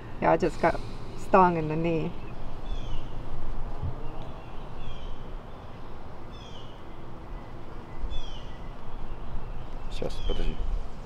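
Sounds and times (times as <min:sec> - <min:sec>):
low steady rumble: 0:00.0 - 0:11.0
songbird high slurred call: 0:00.7 - 0:03.2, 0:03.9 - 0:10.7.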